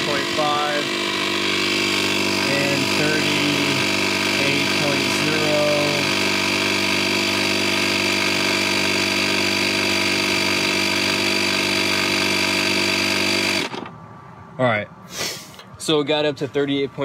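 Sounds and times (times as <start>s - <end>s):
electric air compressor running: 0.0s - 13.9s.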